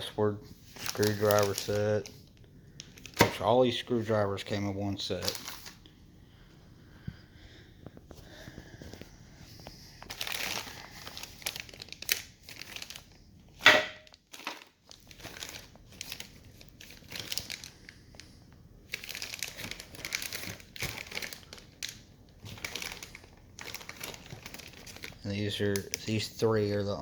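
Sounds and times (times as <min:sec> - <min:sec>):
plastic packaging crinkling: 0:00.0 - 0:05.9, 0:08.2 - 0:26.4.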